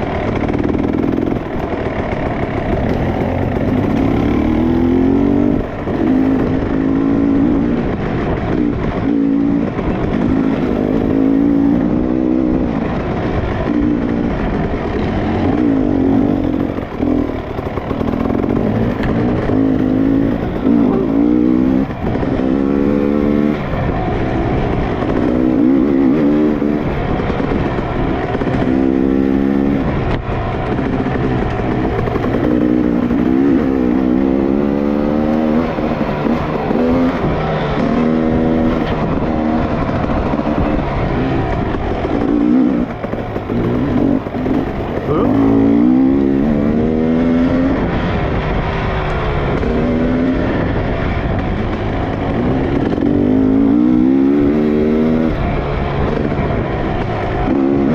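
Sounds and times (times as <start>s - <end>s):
dirt bike engines revving: 0.0s - 57.9s
steady rushing noise: 0.0s - 57.9s.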